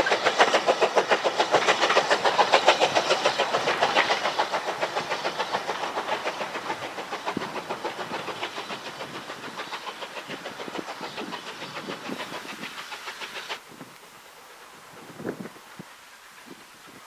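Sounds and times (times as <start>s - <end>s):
steam train chuffing: 0.0s - 17.0s
wind: 0.0s - 17.0s.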